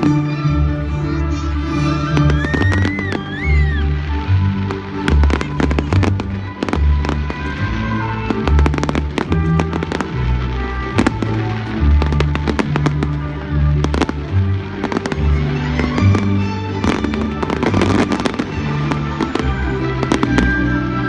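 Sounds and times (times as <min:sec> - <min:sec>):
fireworks bangs and crackles: 0:00.0 - 0:21.0
loud show music: 0:00.0 - 0:21.0.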